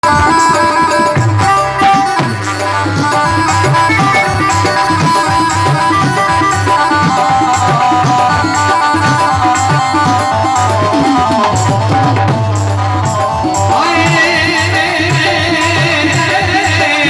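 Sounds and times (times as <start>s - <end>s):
melody of held notes: 0.0s - 16.8s
tabla rhythm: 0.0s - 17.0s.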